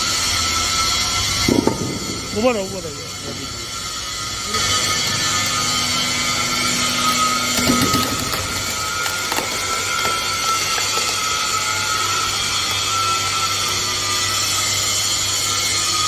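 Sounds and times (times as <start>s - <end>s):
saw cutting timber: 0.0s - 16.0s.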